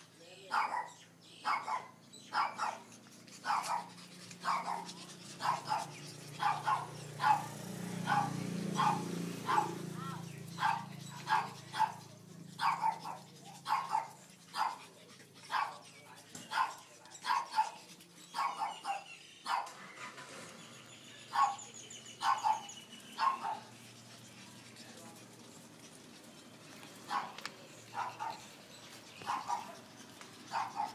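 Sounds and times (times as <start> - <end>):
puppies yapping: 0.0 - 30.9.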